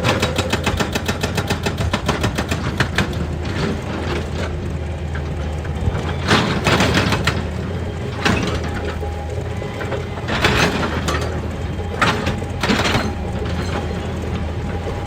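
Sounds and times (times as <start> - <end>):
excavator engine running: 0.0 - 15.0
machine scraping and clanking: 0.0 - 15.0.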